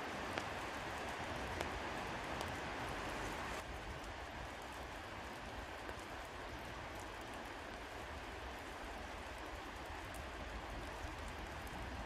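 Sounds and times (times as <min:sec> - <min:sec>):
steady rain on forest canopy: 0:00.0 - 0:12.0.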